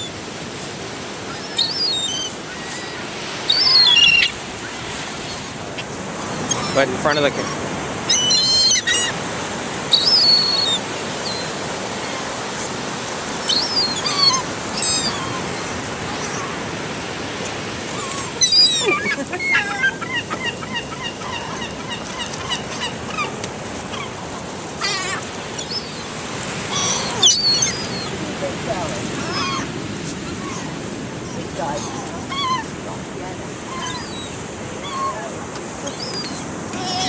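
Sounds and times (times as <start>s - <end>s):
gulls calling: 0.0s - 37.0s
surf hissing: 0.0s - 37.0s.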